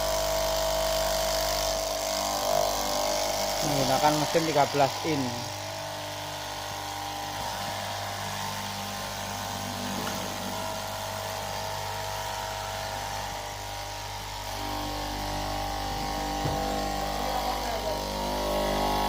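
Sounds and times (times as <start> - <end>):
cloth cutting machine hum: 0.0 - 19.0.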